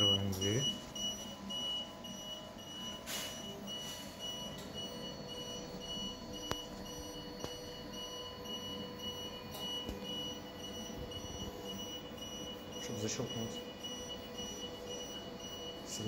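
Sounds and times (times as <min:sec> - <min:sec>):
electronic buzzer beeping: 0:00.0 - 0:16.0.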